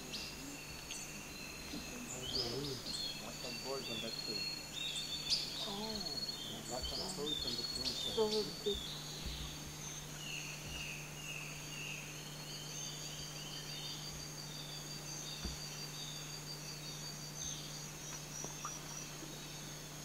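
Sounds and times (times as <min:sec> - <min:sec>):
faint low hum: 0:00.0 - 0:20.0
insect trills: 0:00.0 - 0:20.0.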